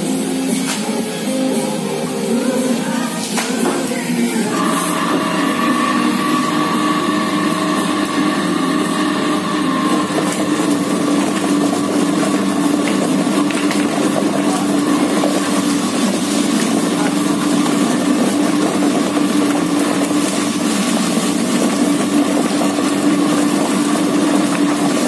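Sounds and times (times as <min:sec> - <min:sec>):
plucking machine motor hum: 0:04.4 - 0:25.0.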